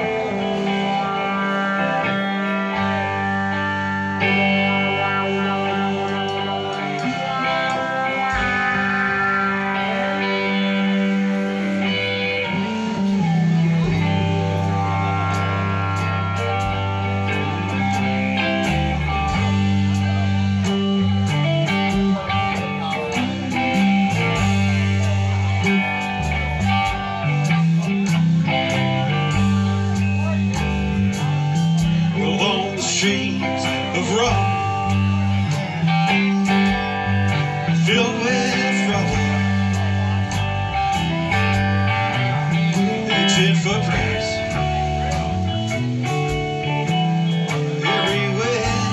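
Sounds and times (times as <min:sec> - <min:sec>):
acoustic guitar: 0:00.0 - 0:48.9
bass line: 0:00.0 - 0:48.9
drums beating: 0:00.0 - 0:48.9
electric guitars: 0:00.0 - 0:48.9.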